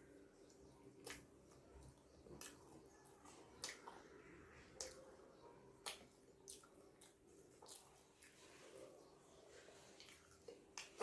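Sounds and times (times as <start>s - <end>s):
person chewing with wet mouth smacks: 0.4s - 8.5s, 10.0s - 11.0s.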